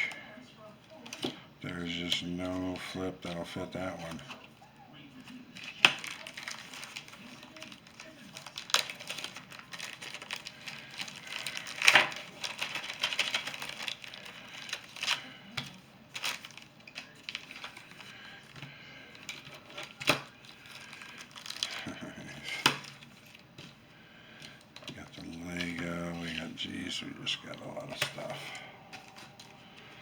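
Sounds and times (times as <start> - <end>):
plastic bags crinkling: 5.5 - 30.0.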